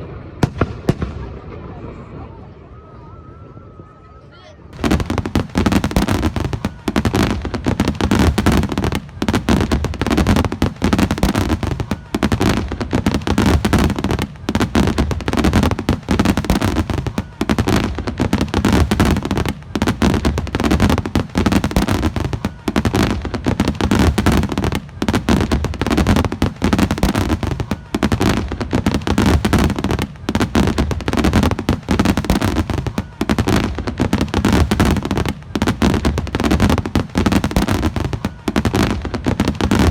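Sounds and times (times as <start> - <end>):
fireworks bangs and crackling: 0.0 - 2.2, 4.7 - 39.9.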